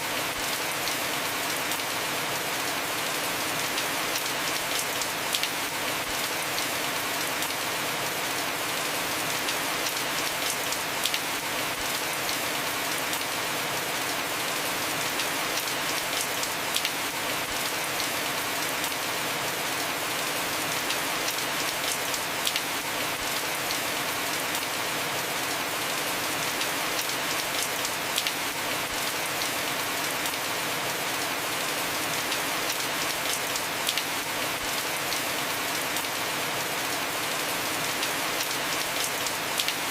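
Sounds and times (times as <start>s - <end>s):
heavy rain on roof: 0.0s - 39.9s.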